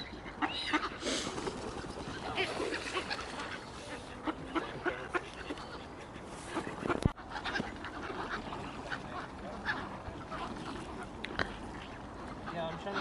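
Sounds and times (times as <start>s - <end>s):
water birds calling and quacking: 0.0s - 13.0s.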